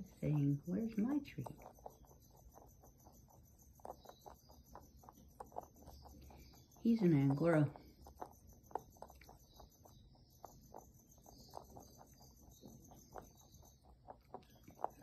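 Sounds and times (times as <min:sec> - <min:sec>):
rabbit chewing crunching clicks: 0:00.0 - 0:15.0.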